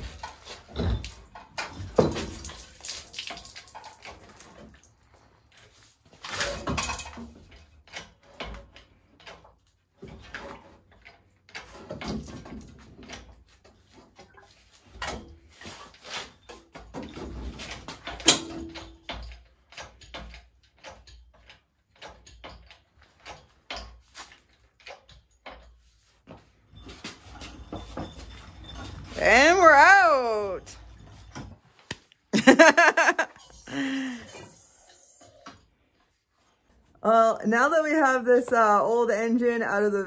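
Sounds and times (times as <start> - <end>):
metal clunks clicks and creaks: 0.0 - 34.6.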